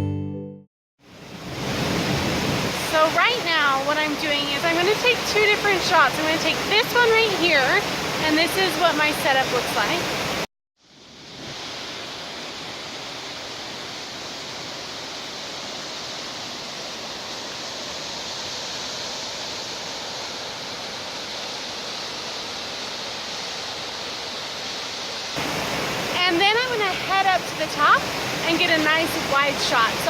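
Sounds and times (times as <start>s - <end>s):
waterfall roaring: 1.6s - 10.4s, 11.1s - 30.0s.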